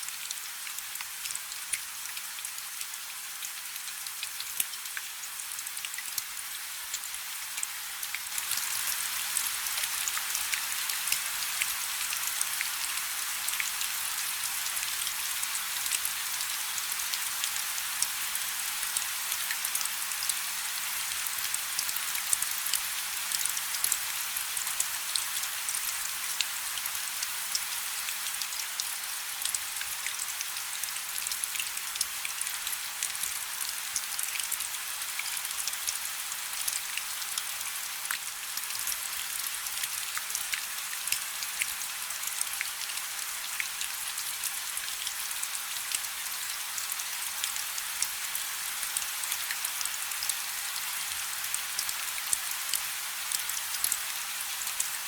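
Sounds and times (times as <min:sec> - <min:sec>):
rain falling on a river: 0:00.0 - 0:55.0.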